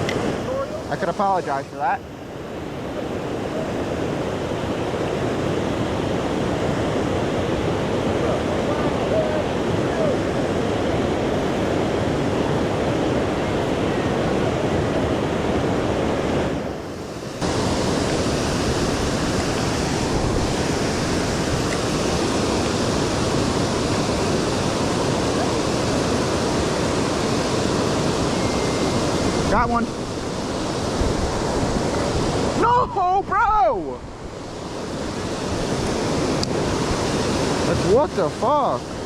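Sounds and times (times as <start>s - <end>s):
wind buffeting microphone: 2.1s - 38.0s.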